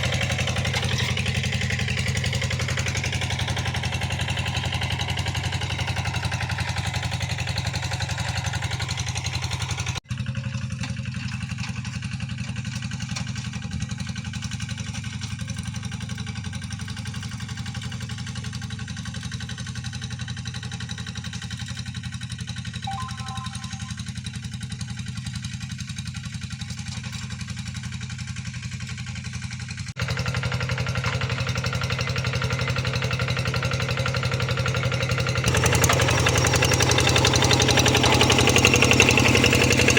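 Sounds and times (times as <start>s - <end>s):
tractor engine under load: 0.0s - 22.2s, 26.3s - 39.9s.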